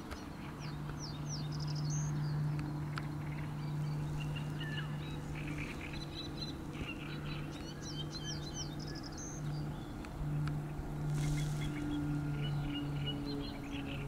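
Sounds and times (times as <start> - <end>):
starlings chirping and whistling: 0.0 - 14.0
steady low hum: 0.0 - 14.0.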